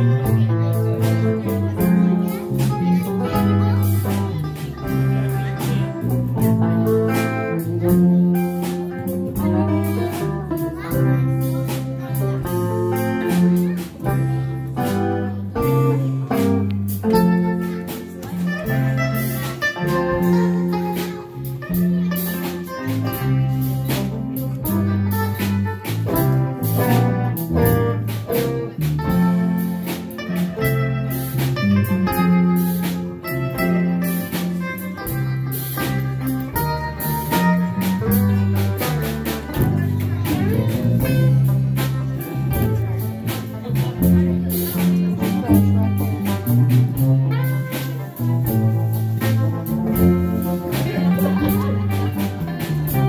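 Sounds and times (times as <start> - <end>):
bass line: 0.0 - 53.0
electric guitar lead notes: 0.0 - 53.0.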